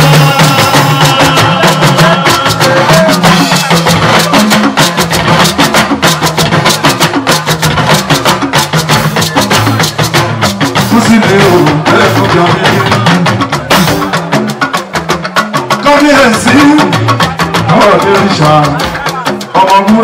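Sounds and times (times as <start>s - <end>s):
low pitched drum notes: 0.0s - 20.0s
talking drums and hand percussion: 0.0s - 20.0s.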